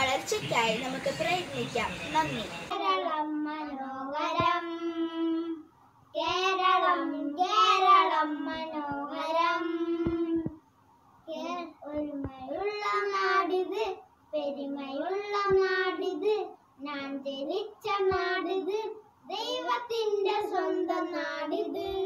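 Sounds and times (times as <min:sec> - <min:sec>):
boys singing unaccompanied: 0:00.0 - 0:05.6, 0:06.2 - 0:10.6, 0:11.3 - 0:22.0.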